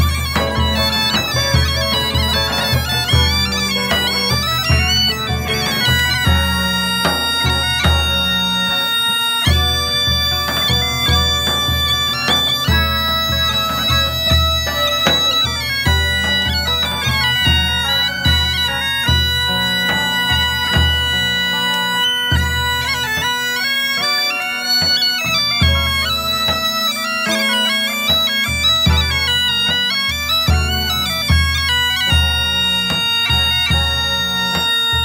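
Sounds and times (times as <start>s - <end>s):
bagpipes playing melody: 0.0s - 35.0s
frame drums: 0.0s - 35.0s.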